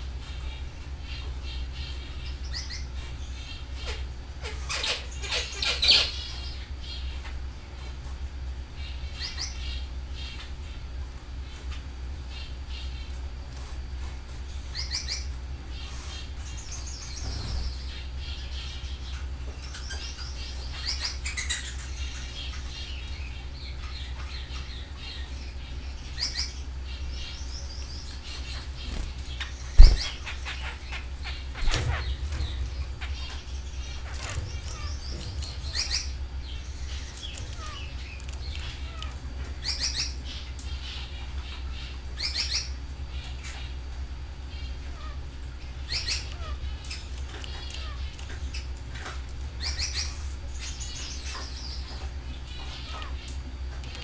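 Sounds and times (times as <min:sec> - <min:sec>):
canaries chirping and trilling: 0:00.0 - 0:54.0
steady low hum: 0:00.0 - 0:54.0.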